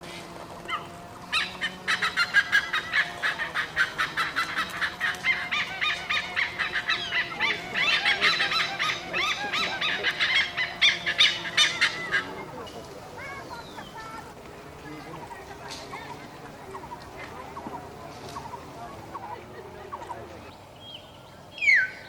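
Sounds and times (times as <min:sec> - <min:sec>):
flock of birds chattering: 0:00.0 - 0:22.0.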